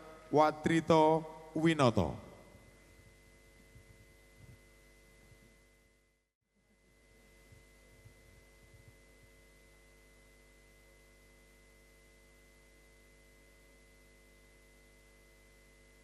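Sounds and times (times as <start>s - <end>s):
electrical hum and hiss: 0.0s - 16.0s.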